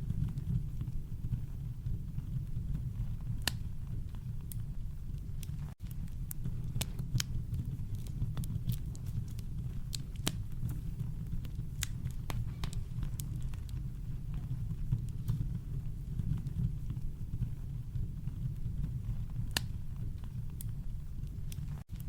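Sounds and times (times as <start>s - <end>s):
campfire crackling and popping: 0.0s - 22.0s
deep brown noise rumble: 0.0s - 22.0s.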